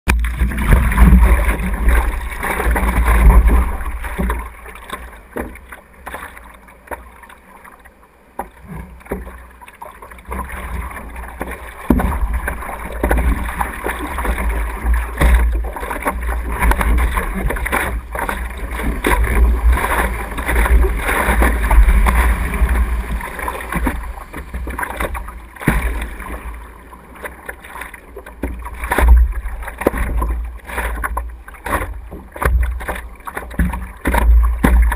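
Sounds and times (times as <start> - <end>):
low rumble of water: 0.1 - 34.9
seawater splashing against surfboard: 0.1 - 34.9.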